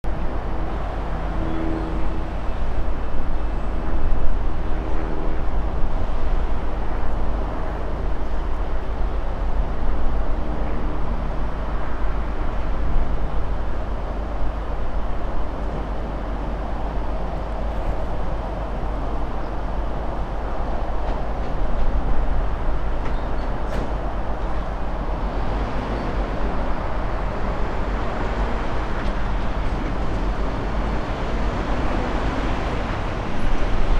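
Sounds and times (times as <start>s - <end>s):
diesel locomotive engine rumbling: 0.0s - 33.9s.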